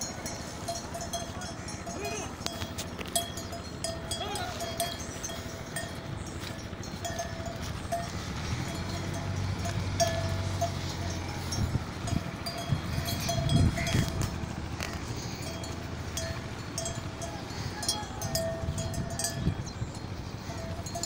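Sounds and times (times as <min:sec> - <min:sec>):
livestock bells ringing: 0:00.0 - 0:21.0.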